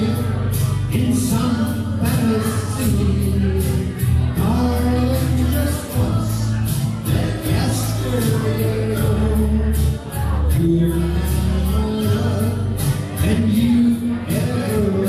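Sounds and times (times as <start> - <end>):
bass: 0.0 - 15.0
person singing: 0.0 - 15.0.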